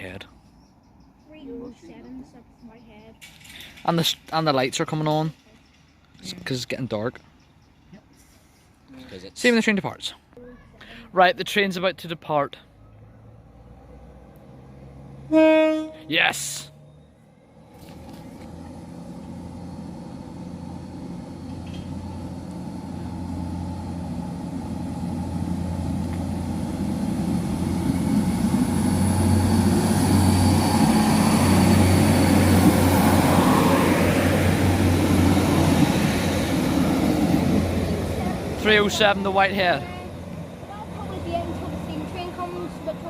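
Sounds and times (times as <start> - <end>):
diesel train engines droning: 0.0 - 9.8, 10.8 - 43.0.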